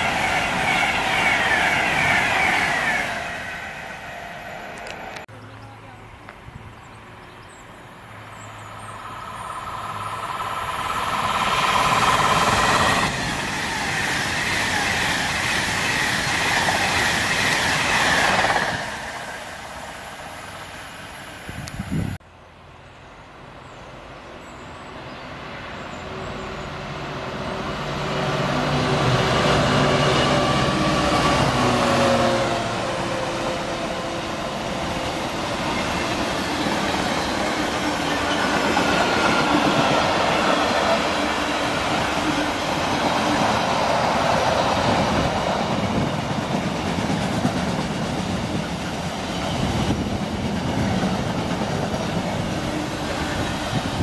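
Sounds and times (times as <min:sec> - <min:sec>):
electric train approaching: 0:00.0 - 0:06.0, 0:06.6 - 0:54.0
diesel locomotive engine hum: 0:00.0 - 0:54.0.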